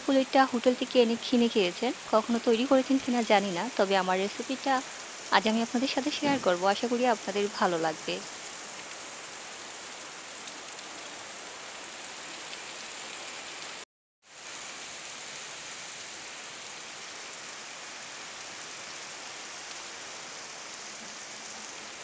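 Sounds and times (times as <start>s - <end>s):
rain hissing on surfaces: 0.0s - 22.0s.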